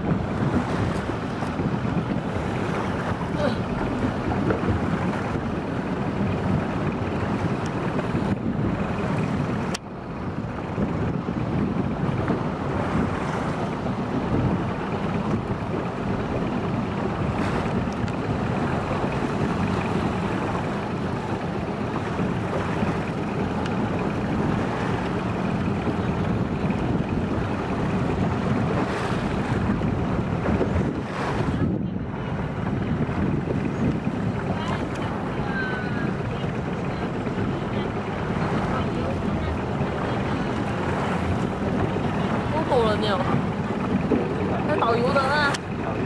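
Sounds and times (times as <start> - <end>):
boat motor running: 0.0 - 46.0
choppy water washing against hull: 0.0 - 46.0
wind buffeting microphone: 0.0 - 46.0.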